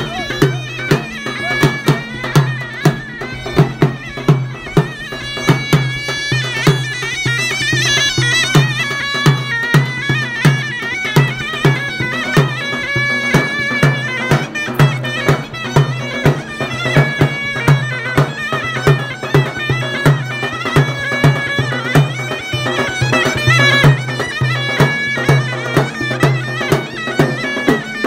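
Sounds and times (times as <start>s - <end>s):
shrill reed pipe melody: 0.0s - 28.0s.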